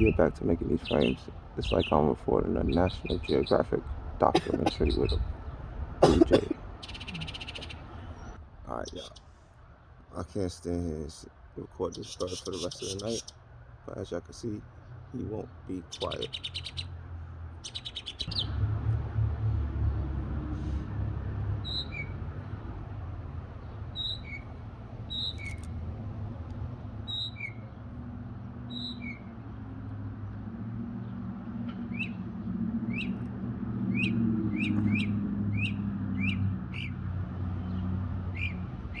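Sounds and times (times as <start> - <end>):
bird singing: 0.0 - 9.4, 11.0 - 17.0, 17.6 - 18.7, 21.4 - 39.0.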